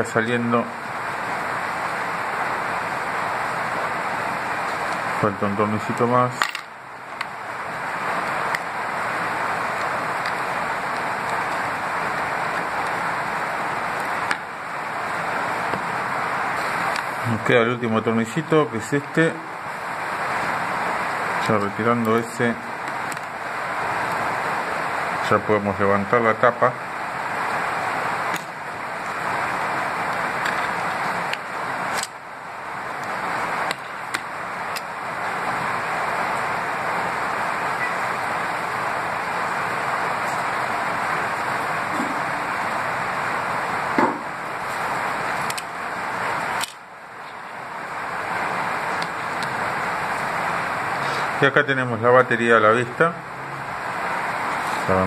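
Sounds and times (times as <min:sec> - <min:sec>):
rushing background noise: 0:00.0 - 0:55.0
steady hiss: 0:00.0 - 0:55.0.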